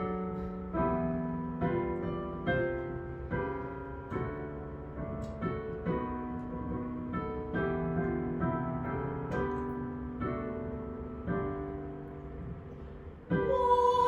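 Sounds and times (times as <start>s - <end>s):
piano playing hymn chords: 0.0s - 14.0s.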